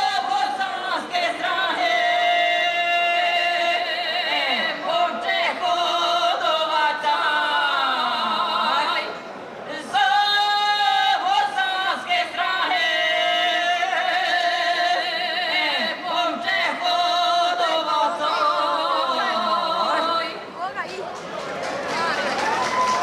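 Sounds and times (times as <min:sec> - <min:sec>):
two women singing unaccompanied: 0:00.0 - 0:09.1, 0:09.7 - 0:20.8.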